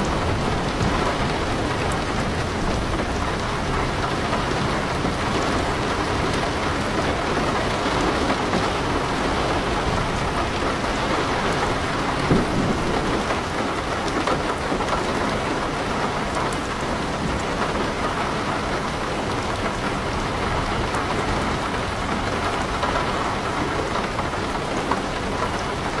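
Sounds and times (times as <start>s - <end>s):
heavy rain on leaves: 0.0s - 26.0s.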